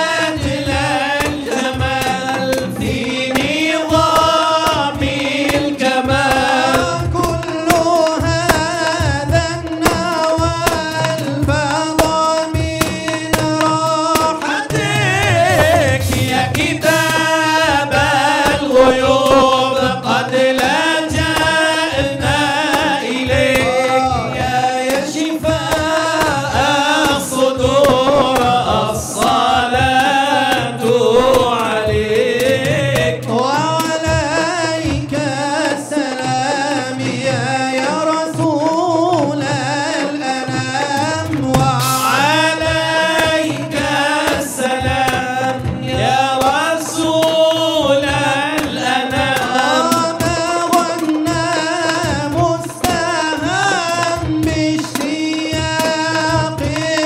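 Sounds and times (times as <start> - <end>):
frame drum beat: 0.0 - 57.0
men singing into microphones: 0.0 - 57.0.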